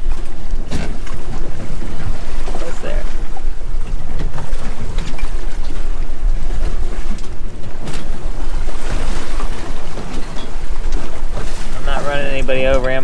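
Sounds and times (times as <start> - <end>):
choppy sea against boat hull: 0.0 - 13.0
wind buffeting microphone: 0.0 - 13.0.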